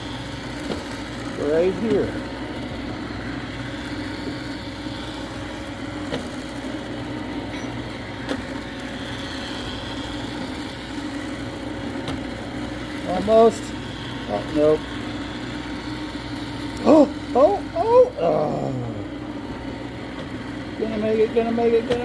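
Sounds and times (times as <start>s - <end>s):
robot vacuum motor hum: 0.0s - 22.0s.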